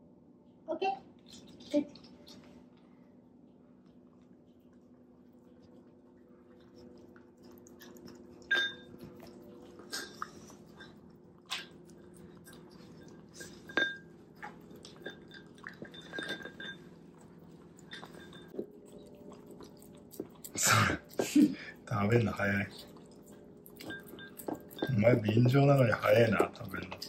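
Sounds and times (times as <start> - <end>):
dog chewing food: 1.1 - 27.0.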